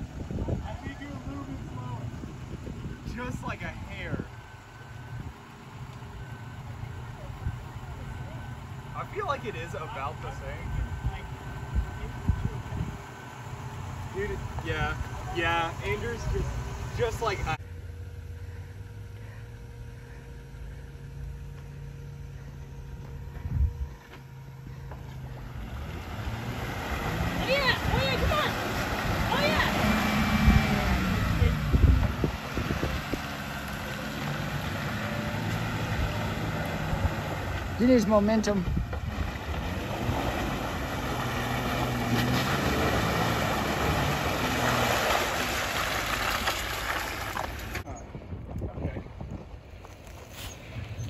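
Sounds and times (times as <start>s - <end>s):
car engine rumbling: 0.0s - 51.0s.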